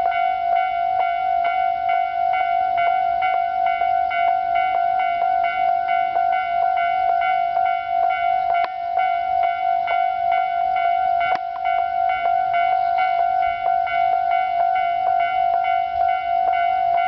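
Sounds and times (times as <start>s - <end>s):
level crossing bell clanging: 0.0s - 17.0s.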